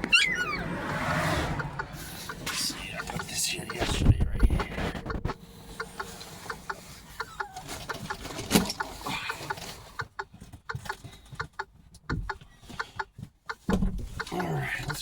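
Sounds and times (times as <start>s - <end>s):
hen clucking: 0.0s - 15.0s.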